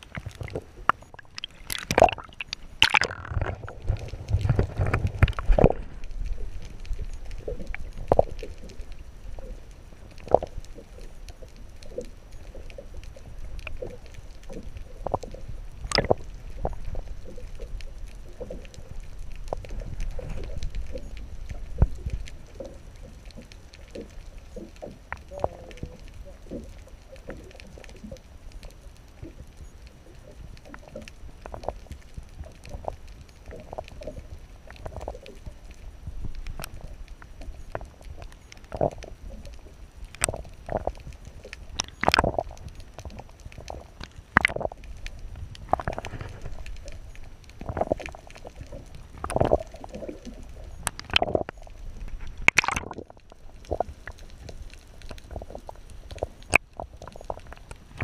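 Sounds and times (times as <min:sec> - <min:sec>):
underwater low rumble: 0:00.0 - 0:58.0
water gurgles: 0:00.0 - 0:58.0.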